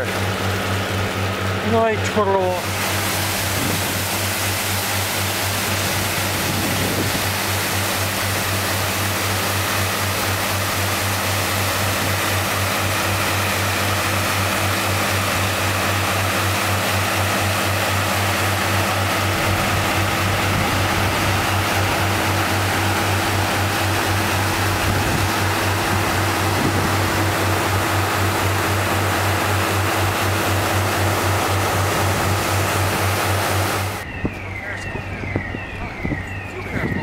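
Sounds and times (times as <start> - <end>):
floodwater rushing: 0.0 - 34.0
low motor hum: 0.0 - 37.0.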